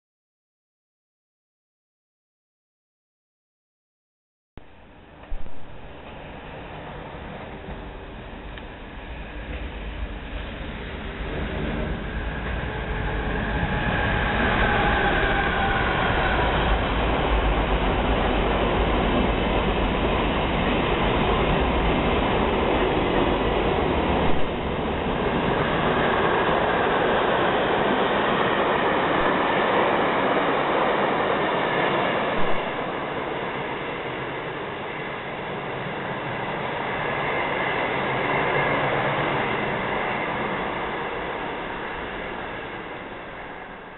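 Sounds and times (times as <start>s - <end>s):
electric locomotive whine: 4.6s - 43.9s
wheels rumbling on rail: 4.6s - 43.9s.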